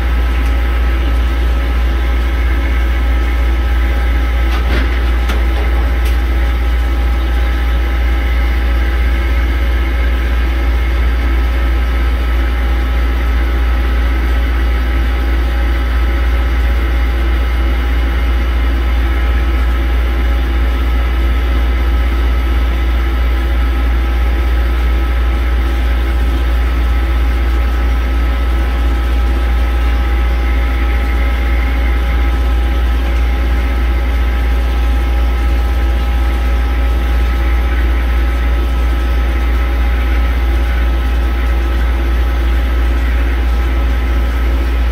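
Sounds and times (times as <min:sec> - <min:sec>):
deep machinery hum: 0:00.0 - 0:44.9.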